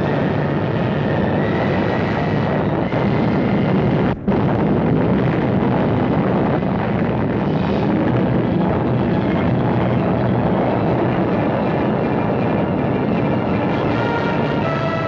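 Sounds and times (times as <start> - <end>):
explosion rumbling roar: 0.0 - 15.0.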